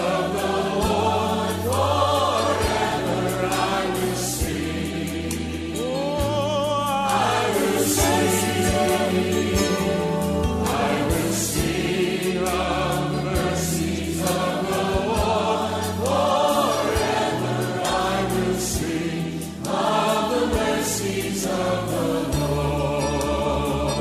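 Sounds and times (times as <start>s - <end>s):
choir singing: 0.0s - 24.0s
drum and cymbal strokes: 0.0s - 24.0s.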